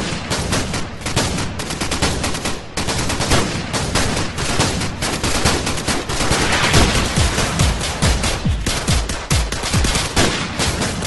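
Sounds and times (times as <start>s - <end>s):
automatic gunfire: 0.0s - 11.0s.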